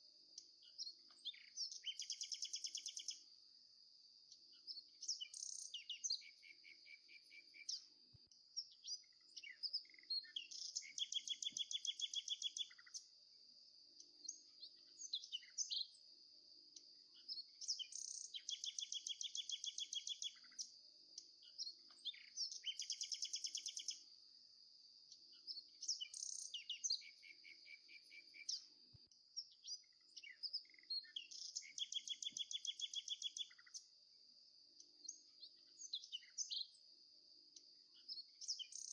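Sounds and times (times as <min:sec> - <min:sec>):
small birds chirping and trilling: 0:00.0 - 0:24.3, 0:24.9 - 0:38.9.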